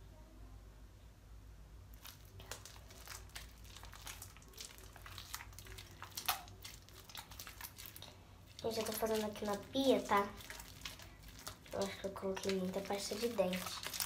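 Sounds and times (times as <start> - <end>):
sticky slime crackling: 1.9 - 14.0.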